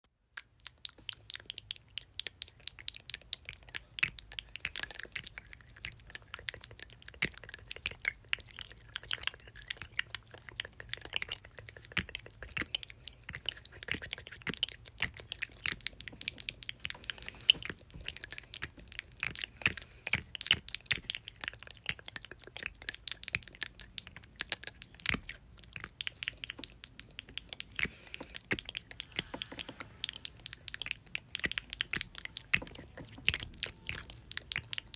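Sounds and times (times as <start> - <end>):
wet tongue and lip clicks: 0.2 - 34.9.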